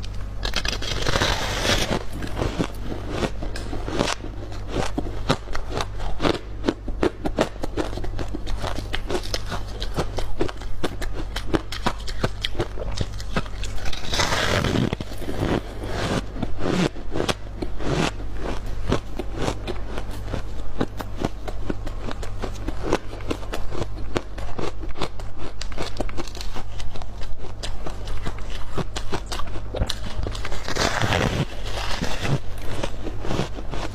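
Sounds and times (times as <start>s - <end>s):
frost chunks being chewed: 0.0s - 33.9s
steady low hum: 0.0s - 33.9s.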